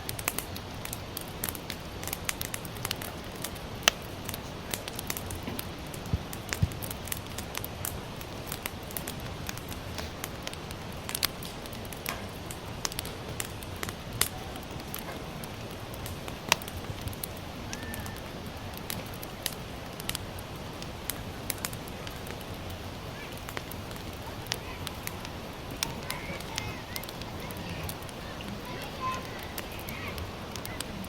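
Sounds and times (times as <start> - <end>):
firewood crackling and popping: 0.0 - 31.0.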